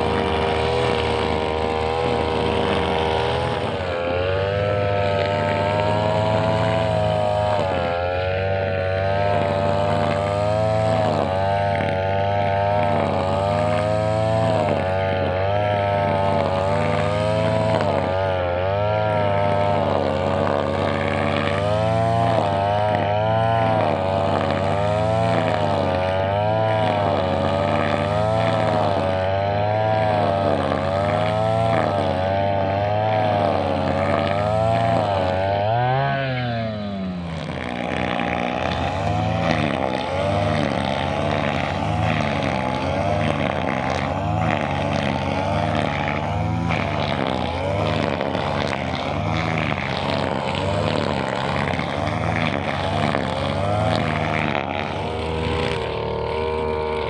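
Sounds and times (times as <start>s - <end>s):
brushcutter engine revving: 0.0s - 57.0s.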